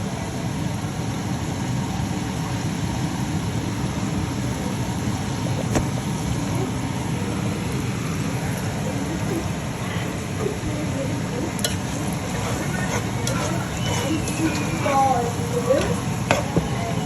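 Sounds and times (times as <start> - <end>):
rice frying in a pot: 0.0 - 17.0.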